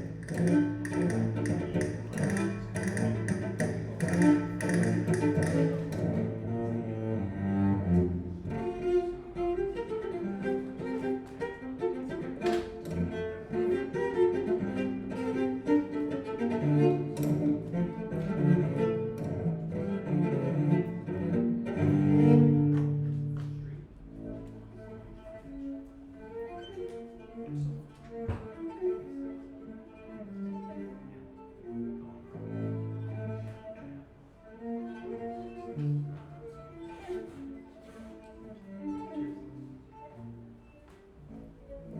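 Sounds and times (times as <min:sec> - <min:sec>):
instrumental music with bowed low strings: 0:00.0 - 0:41.9.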